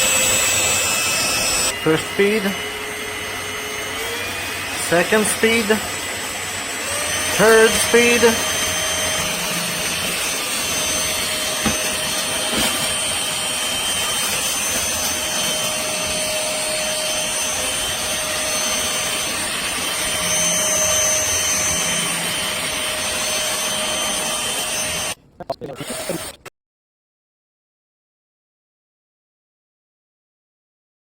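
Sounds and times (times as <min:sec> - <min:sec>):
stick vacuum running: 0:00.0 - 0:26.5.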